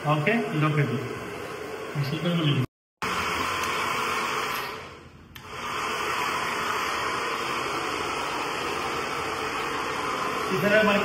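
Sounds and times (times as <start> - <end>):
hair dryer blowing: 0.0 - 2.4, 3.0 - 11.0.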